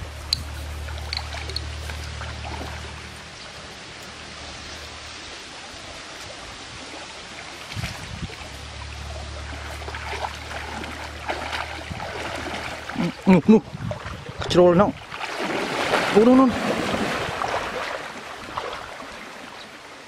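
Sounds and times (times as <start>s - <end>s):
stream water splashing: 0.0s - 20.0s.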